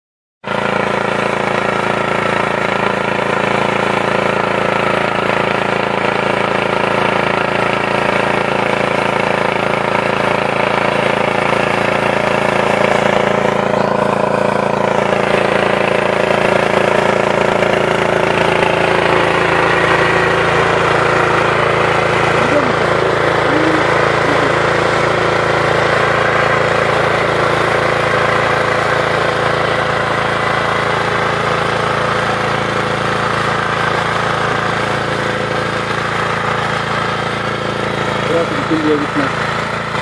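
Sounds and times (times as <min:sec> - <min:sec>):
small tiller engine running: 0:00.4 - 0:40.0.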